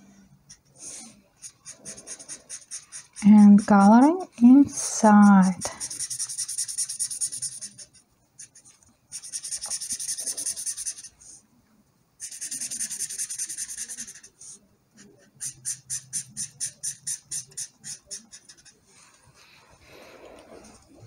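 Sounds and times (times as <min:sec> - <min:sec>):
marker scribbling on paper: 0:00.5 - 0:11.4, 0:12.2 - 0:18.8.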